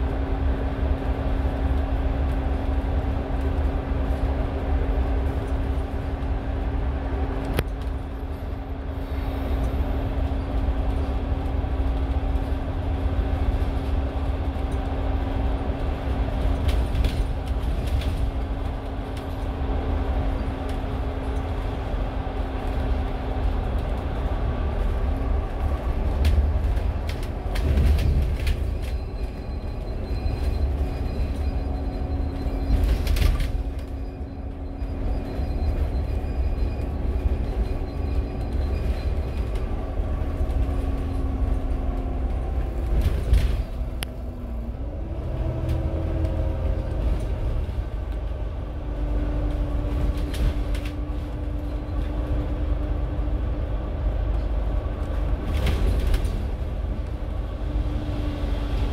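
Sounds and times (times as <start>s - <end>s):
bus engine and road rumble: 0.0s - 58.9s.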